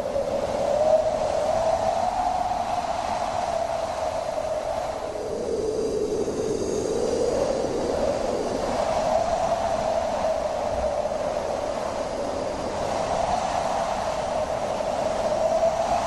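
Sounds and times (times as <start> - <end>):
wind howling: 0.0 - 16.0.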